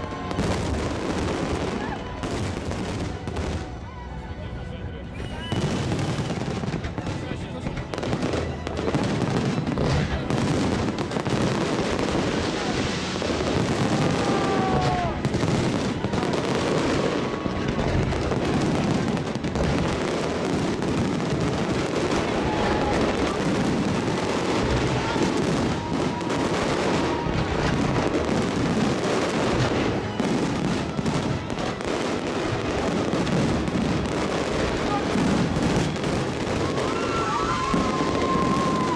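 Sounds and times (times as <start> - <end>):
fireworks bursting: 0.0 - 4.0, 5.1 - 38.9.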